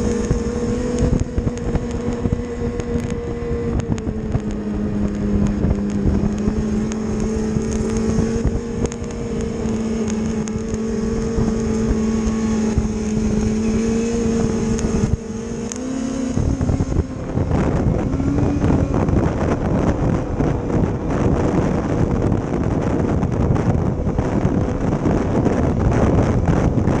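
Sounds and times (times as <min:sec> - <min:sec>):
snowmobile engine running: 0:00.0 - 0:27.0
wind buffeting microphone: 0:00.0 - 0:27.0.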